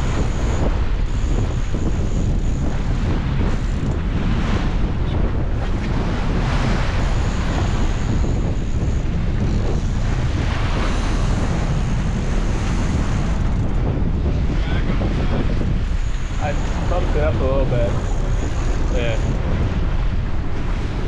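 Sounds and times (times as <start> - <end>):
sea water rushing along hull: 0.0 - 21.0
wind buffeting microphone: 0.0 - 21.0.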